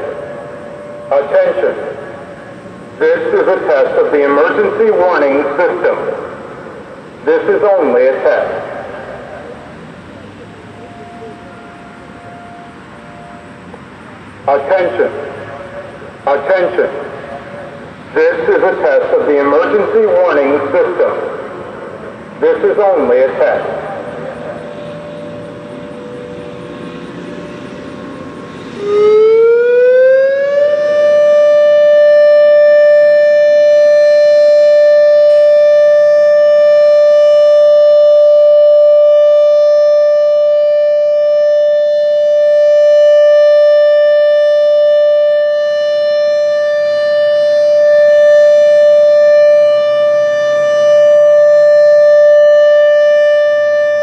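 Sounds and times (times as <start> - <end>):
distant sirens: 0.0 - 54.0
electronic tornado siren: 0.0 - 54.0.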